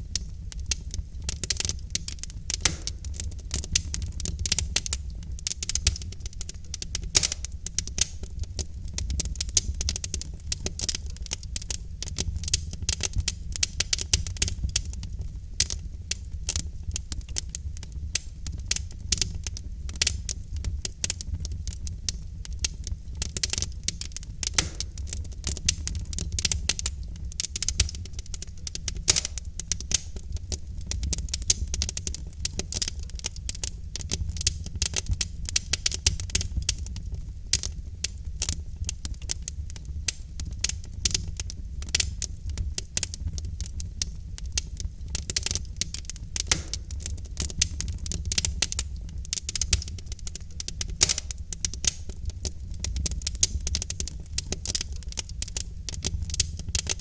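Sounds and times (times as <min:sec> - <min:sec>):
logs crackling in fireplace: 0:00.0 - 0:57.0
low steady fire rumble: 0:00.0 - 0:57.0.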